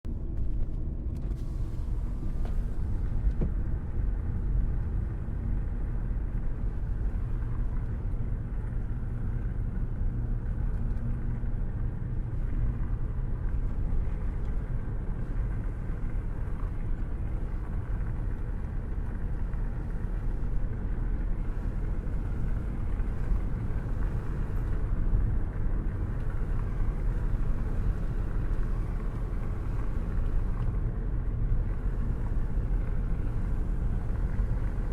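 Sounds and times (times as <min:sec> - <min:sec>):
road and engine rumble: 0:00.0 - 0:34.9.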